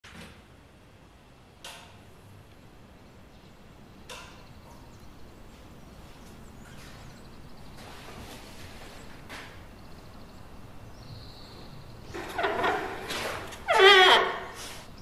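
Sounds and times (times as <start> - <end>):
low room hum: 0.1 - 15.0.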